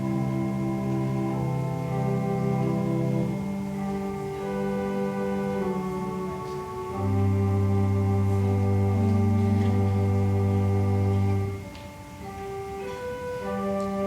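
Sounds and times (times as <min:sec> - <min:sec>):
church organ playing chords: 0:00.0 - 0:14.0.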